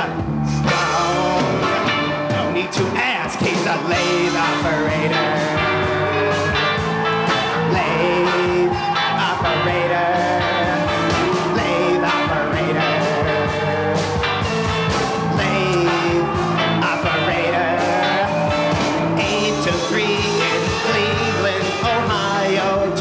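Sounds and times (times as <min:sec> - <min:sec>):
bass guitar: 0:00.0 - 0:23.0
drums keeping a steady beat: 0:00.0 - 0:23.0.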